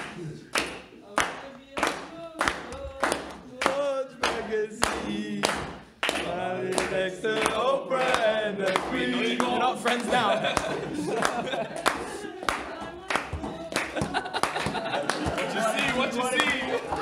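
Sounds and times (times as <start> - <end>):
rhythmic hand clapping: 0.0 - 17.0
men chanting and singing: 1.5 - 17.0.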